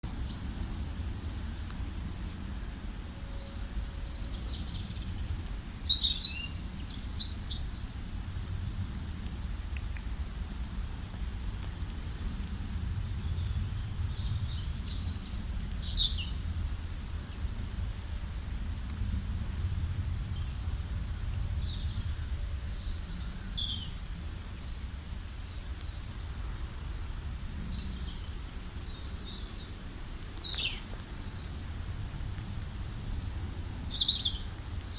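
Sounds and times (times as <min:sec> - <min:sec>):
steady low rumble: 0:00.0 - 0:34.9
birds singing and chirping: 0:00.3 - 0:08.2, 0:12.0 - 0:18.9, 0:20.0 - 0:31.6, 0:32.6 - 0:34.9.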